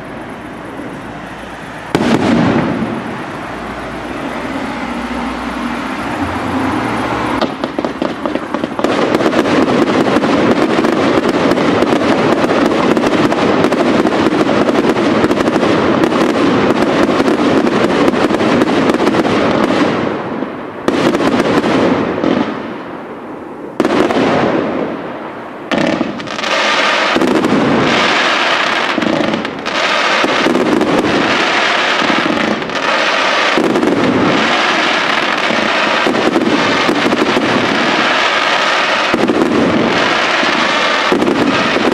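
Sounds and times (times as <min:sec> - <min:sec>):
fireworks bangs and crackle: 0:00.0 - 0:41.9.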